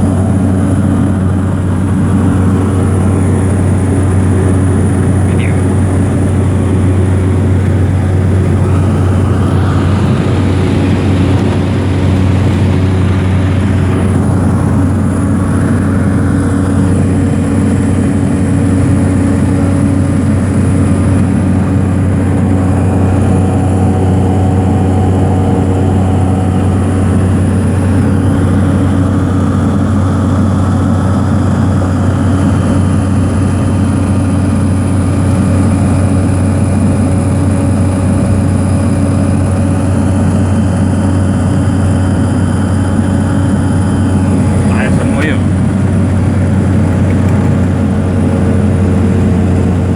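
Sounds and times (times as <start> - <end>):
aircraft engines droning: 0.0 - 49.9.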